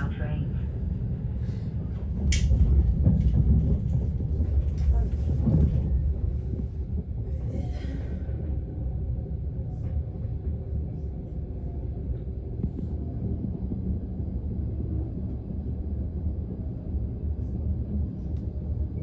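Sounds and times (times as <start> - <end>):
train rumble inside coach: 0.0 - 19.0.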